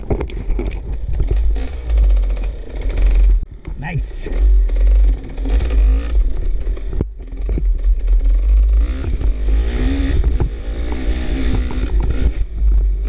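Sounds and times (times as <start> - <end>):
wind rumble on microphone: 0.0 - 3.9, 4.6 - 13.0
dirt bike engine revving: 0.9 - 3.4, 4.0 - 13.0.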